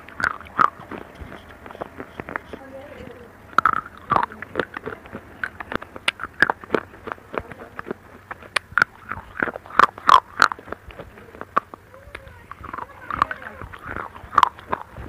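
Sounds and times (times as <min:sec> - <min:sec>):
slate chips crunched and chewed: 0:00.0 - 0:15.0.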